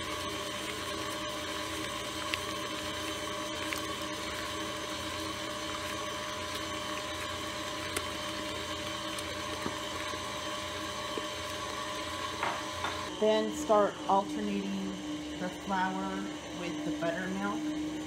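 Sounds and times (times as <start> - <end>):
stand mixer motor hum: 0.0 - 18.0.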